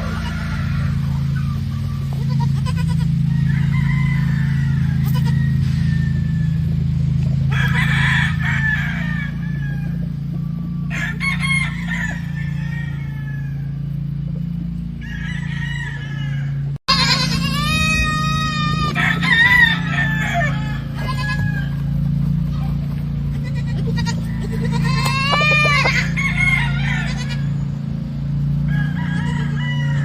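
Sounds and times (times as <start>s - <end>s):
roosters crowing: 0.0s - 30.0s
steady low hum: 0.0s - 30.0s.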